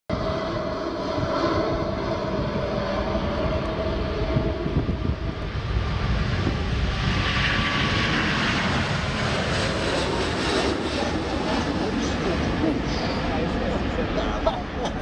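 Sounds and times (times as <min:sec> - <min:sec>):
jet engines roaring at takeoff: 0:00.1 - 0:15.0.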